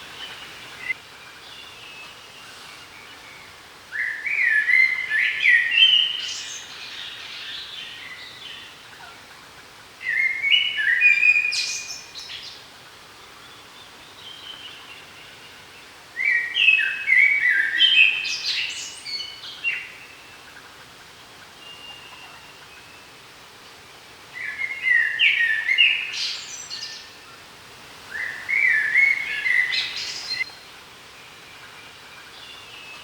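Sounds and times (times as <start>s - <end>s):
faint forest hiss: 0.0s - 33.0s
songbird singing: 0.0s - 33.0s.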